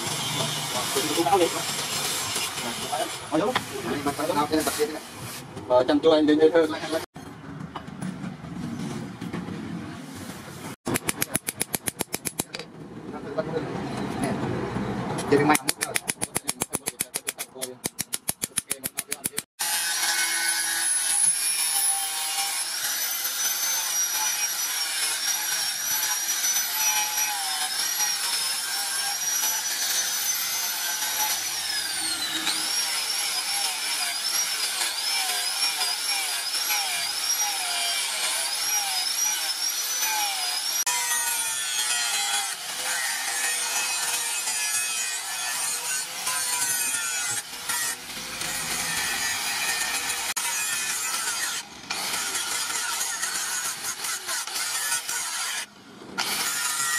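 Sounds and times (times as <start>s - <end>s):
angle grinder grinding metal: 0.0s - 5.2s, 15.3s - 56.9s.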